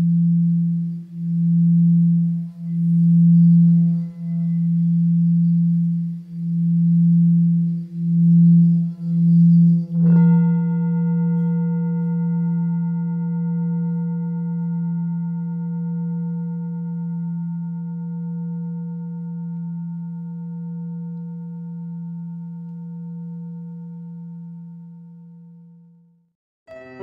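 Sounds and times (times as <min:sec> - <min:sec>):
singing bowl ringing: 0:00.0 - 0:26.0, 0:26.7 - 0:27.0.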